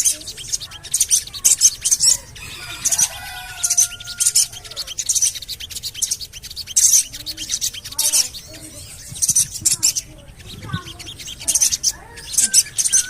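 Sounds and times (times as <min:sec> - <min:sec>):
birds chirping rapidly: 0:00.0 - 0:13.0
low whistled bird notes: 0:00.0 - 0:13.0.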